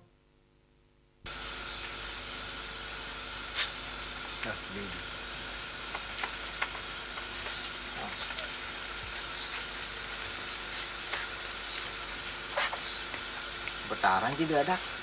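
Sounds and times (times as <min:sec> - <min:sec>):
background hiss: 0:00.0 - 0:15.0
crickets chirring: 0:01.3 - 0:15.0.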